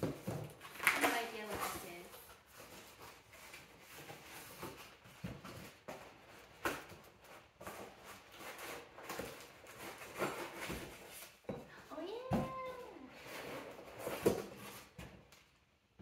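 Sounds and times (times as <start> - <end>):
cardboard rustling and crinkling: 0.0 - 11.5, 12.2 - 15.6.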